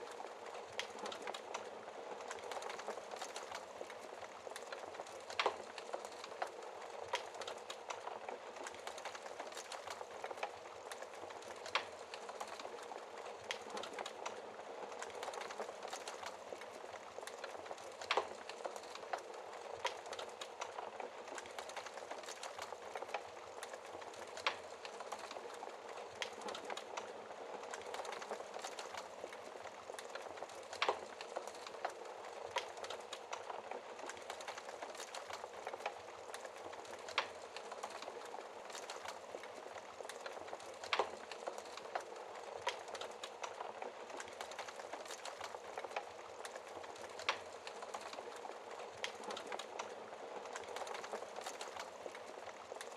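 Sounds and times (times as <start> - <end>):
soft hiss of flames: 0.0 - 52.9
wood fire crackling: 0.0 - 52.9.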